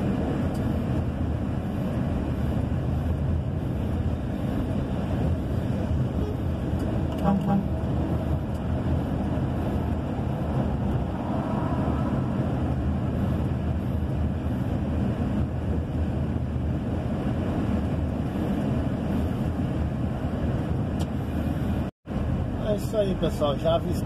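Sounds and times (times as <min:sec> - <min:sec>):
wind noise: 0:00.0 - 0:22.6
truck engine: 0:00.0 - 0:24.0
tyre noise on road: 0:00.0 - 0:24.0.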